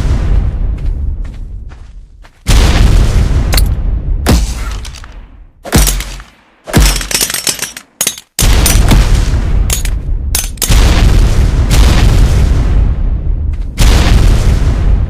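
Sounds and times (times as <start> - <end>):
grenade explosions: 2.5 - 15.0.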